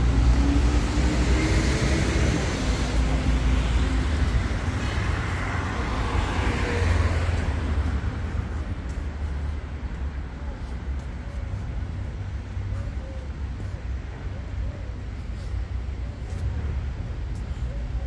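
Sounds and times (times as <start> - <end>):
vehicles passing close by: 0.0 - 18.0.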